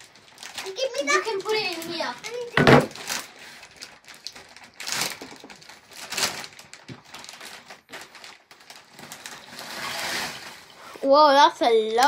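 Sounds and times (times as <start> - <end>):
plastic chip bag rustling: 0.0 - 11.1.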